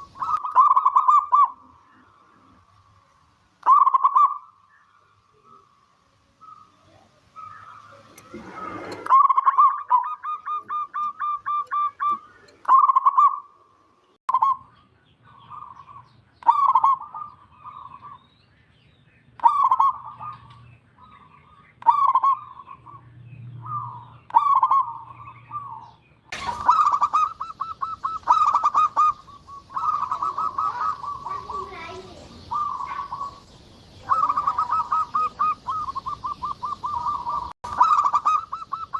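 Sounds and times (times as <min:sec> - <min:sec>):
dove cooing: 0:00.0 - 0:02.7, 0:03.6 - 0:04.6, 0:06.3 - 0:13.5, 0:15.4 - 0:18.2, 0:19.4 - 0:20.7, 0:21.8 - 0:23.0, 0:23.6 - 0:38.9.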